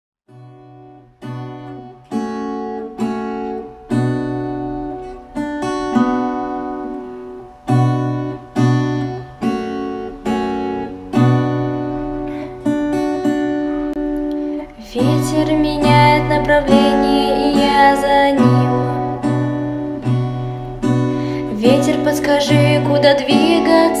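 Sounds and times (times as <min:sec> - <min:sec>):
acoustic guitar strumming chords: 0:00.3 - 0:24.0.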